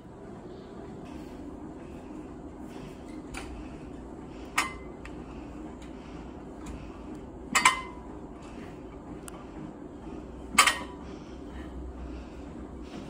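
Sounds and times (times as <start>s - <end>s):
low gym hum: 0.0s - 13.0s.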